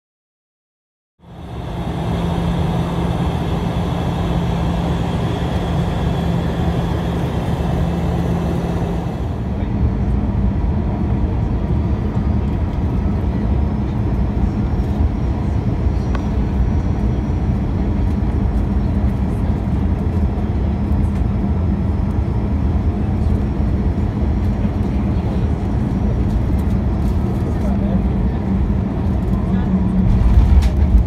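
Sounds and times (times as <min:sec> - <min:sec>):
airliner cabin rumble: 0:01.2 - 0:31.0.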